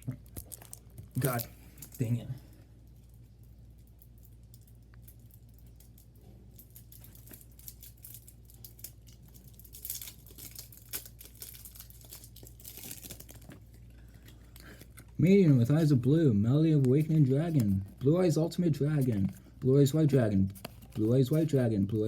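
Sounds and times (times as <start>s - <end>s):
plastic packaging crinkling and tearing: 0.3s - 2.2s, 2.9s - 16.1s, 16.8s - 22.0s.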